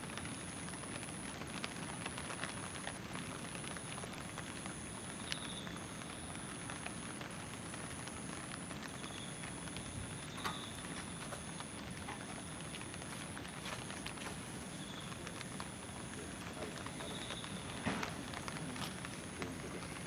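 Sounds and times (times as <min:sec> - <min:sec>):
raindrops ticking on surfaces: 0:00.0 - 0:20.0
steady rain hiss: 0:00.0 - 0:20.0.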